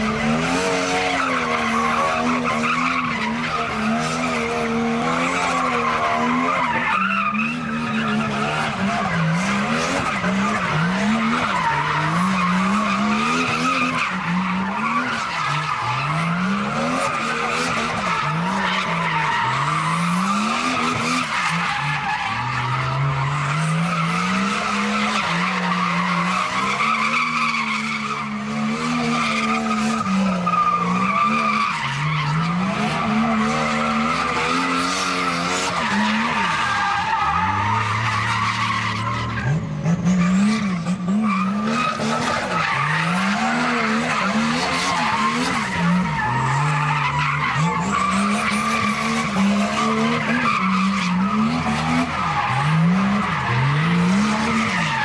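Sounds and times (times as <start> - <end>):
car engine revving hard: 0.0 - 55.0
tyres screeching: 0.0 - 55.0.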